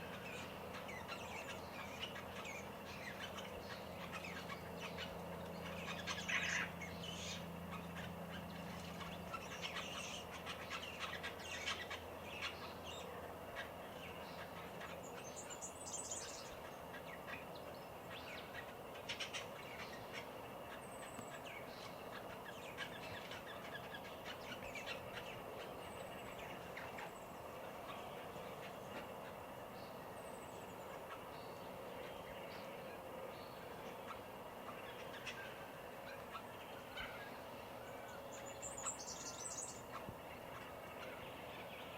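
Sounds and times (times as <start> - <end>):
birds chirping and chattering: 0.0 - 41.9
faint low hum: 0.0 - 41.9.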